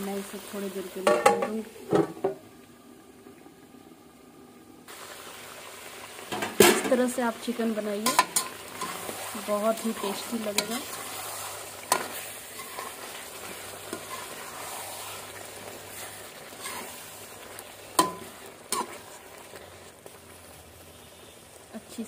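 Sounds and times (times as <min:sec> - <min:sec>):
chicken sizzling in a pan: 0:00.0 - 0:02.3, 0:04.9 - 0:22.0.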